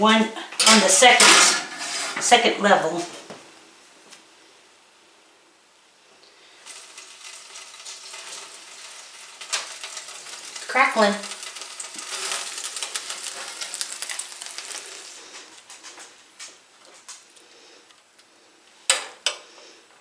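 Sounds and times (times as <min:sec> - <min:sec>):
food crackling and sizzling: 0:00.0 - 0:04.0, 0:06.0 - 0:19.8.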